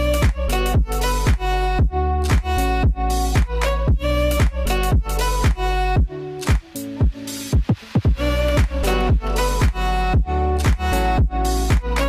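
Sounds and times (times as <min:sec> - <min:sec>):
deep bass: 0:00.0 - 0:06.2, 0:08.1 - 0:12.0
drum beat: 0:00.2 - 0:12.0.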